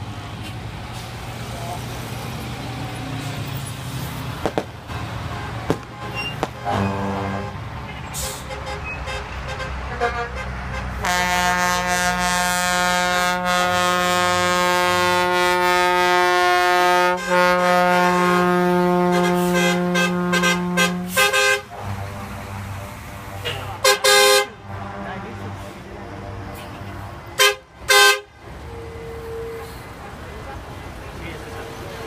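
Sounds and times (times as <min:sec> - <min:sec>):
bus air horn blasts: 0:05.2 - 0:30.9.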